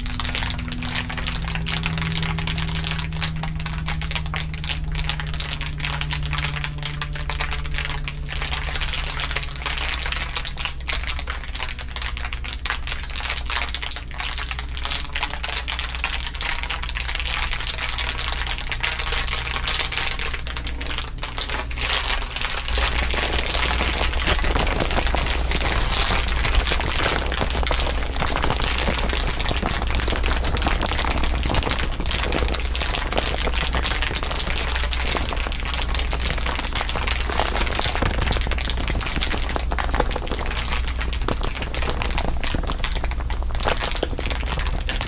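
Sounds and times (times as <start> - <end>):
dense crinkling crackle: 0.0 - 45.0
low steady hum: 0.0 - 45.0.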